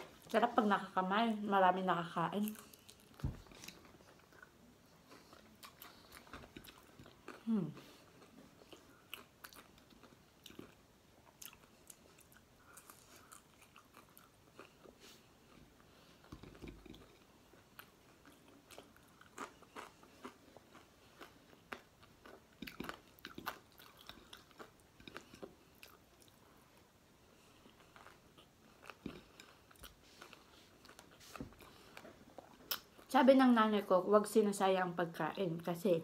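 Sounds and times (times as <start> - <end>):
person chewing crunchy food: 2.4 - 33.1.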